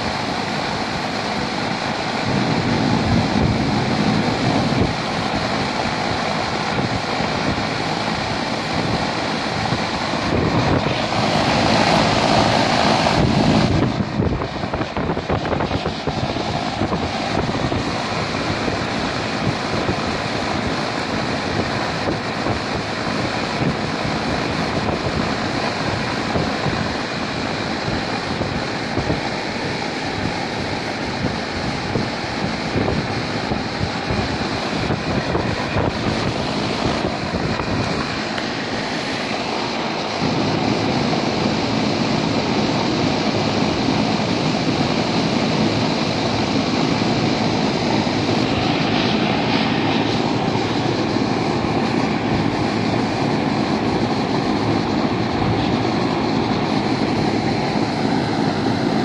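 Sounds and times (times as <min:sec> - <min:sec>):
air conditioner fan running: 0:00.0 - 0:59.0.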